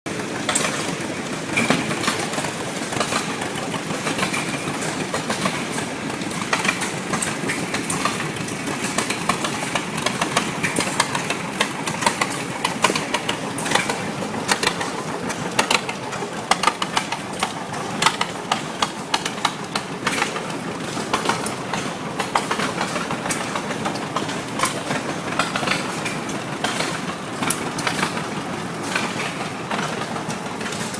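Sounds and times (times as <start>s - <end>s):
lathe mechanical clatter: 0.1s - 30.9s
sharp clicks and cracks: 0.3s - 30.9s.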